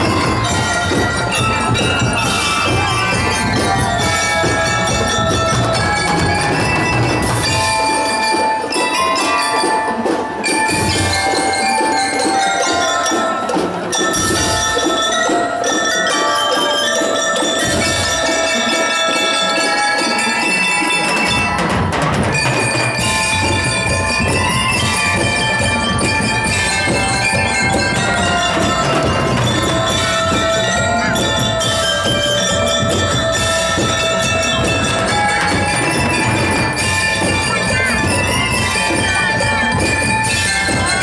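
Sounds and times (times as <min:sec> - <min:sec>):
bells and xylophones ringing: 0:00.0 - 0:41.0
marching band playing: 0:00.0 - 0:41.0.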